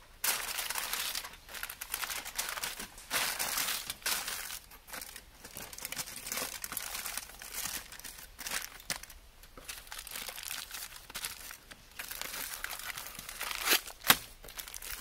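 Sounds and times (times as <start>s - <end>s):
aluminium foil crinkling: 0.2s - 15.0s.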